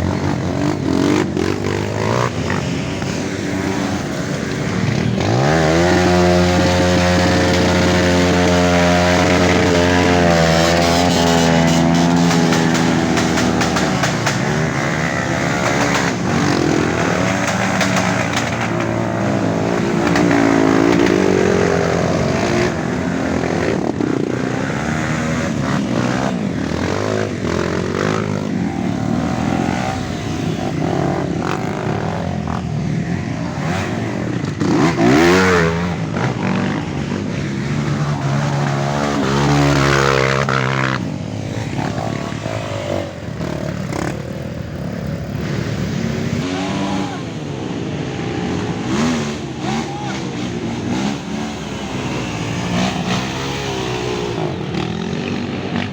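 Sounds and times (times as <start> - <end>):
motorcycles revving: 0.0 - 55.9.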